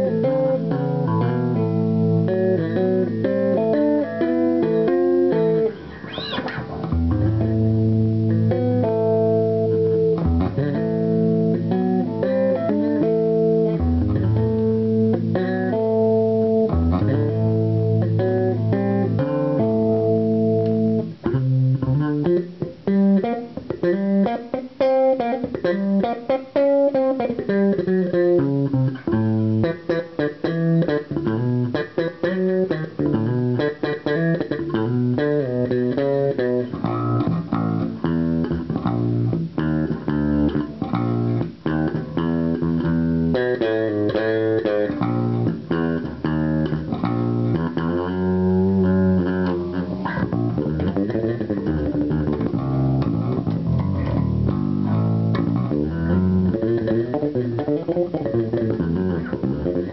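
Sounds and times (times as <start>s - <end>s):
electric bass guitar solo: 0.0s - 59.9s.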